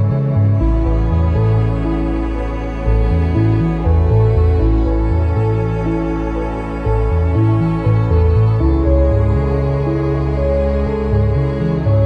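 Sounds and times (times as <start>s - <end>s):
slow sad new-age music: 0.0s - 12.0s.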